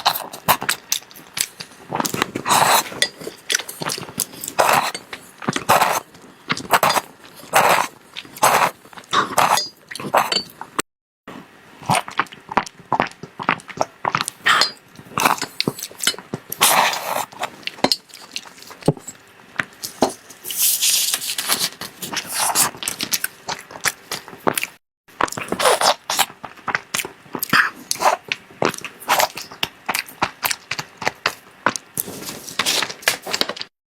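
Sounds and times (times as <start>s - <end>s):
crunching and chewing: 0.0s - 10.8s, 11.8s - 19.1s, 19.7s - 33.7s.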